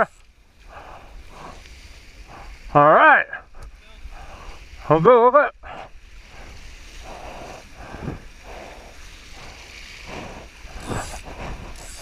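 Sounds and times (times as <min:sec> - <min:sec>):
wind buffeting microphone: 0:00.6 - 0:12.0.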